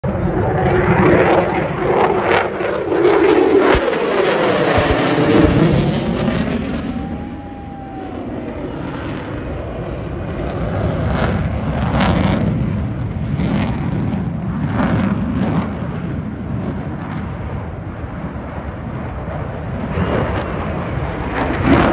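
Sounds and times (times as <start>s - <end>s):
jet engine rushing rumble: 0.0s - 21.9s.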